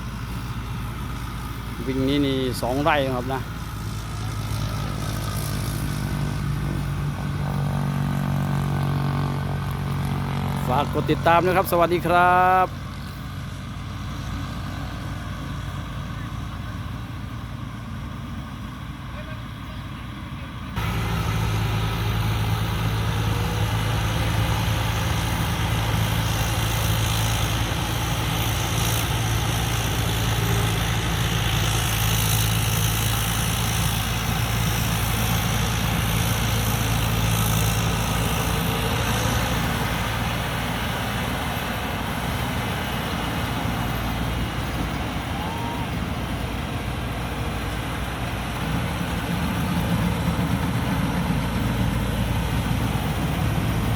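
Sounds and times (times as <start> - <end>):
diesel engine running: 0.0 - 53.9
machinery noise: 0.0 - 53.9.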